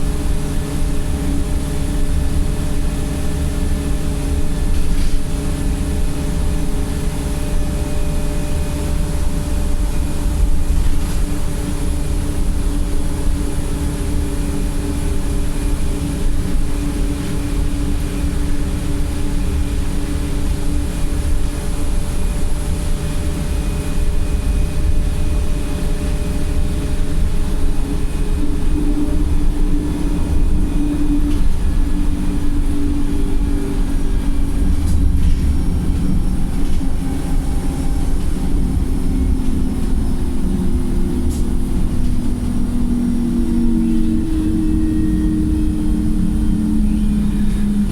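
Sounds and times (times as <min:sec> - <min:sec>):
diesel bus engine drone: 0:00.0 - 0:47.9
road rumble: 0:00.0 - 0:47.9.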